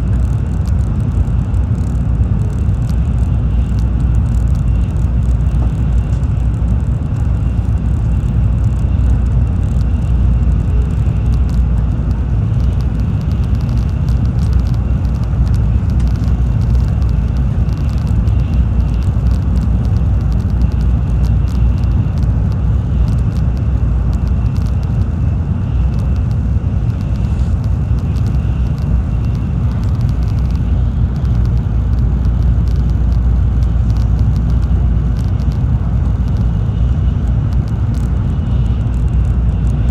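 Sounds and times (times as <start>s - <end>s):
train interior rumble: 0.0s - 39.9s.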